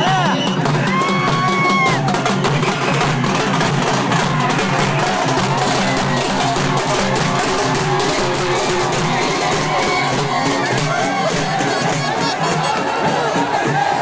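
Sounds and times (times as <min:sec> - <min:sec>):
loud music with fast drum beat: 0:00.0 - 0:14.0.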